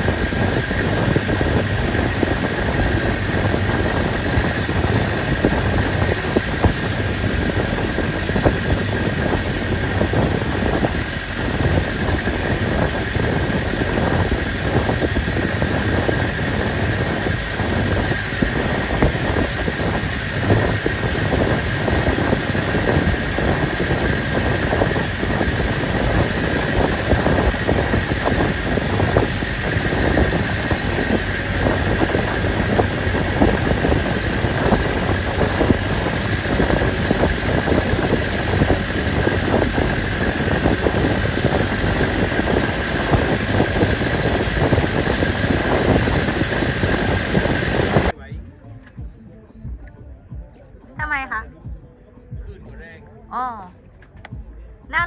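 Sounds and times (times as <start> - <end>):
boat engine running: 0.0 - 48.6.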